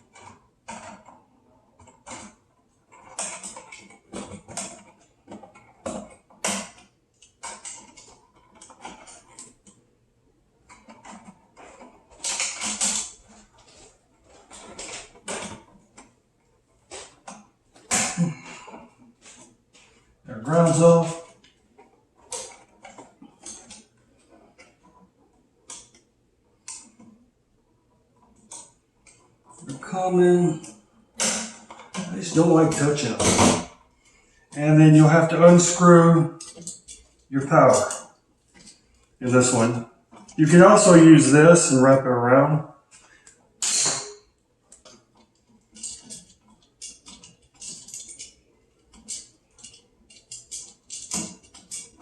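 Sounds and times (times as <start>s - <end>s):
small metallic clicks and scrapes: 0.0s - 9.9s, 10.6s - 41.4s, 42.9s - 52.0s.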